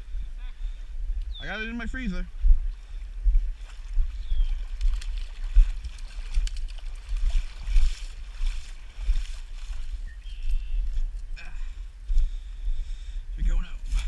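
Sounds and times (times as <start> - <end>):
wind rumble on microphone: 0.0 - 14.0
footsteps crunching through dry grass: 0.9 - 14.0.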